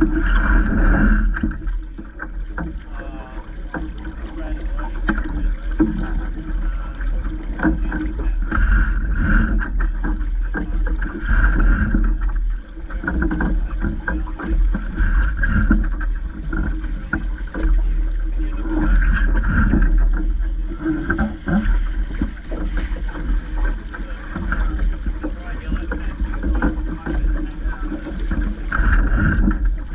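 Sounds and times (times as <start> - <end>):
water slapping against hull: 0.0 - 29.9
wind rumbling on microphone: 0.0 - 29.9.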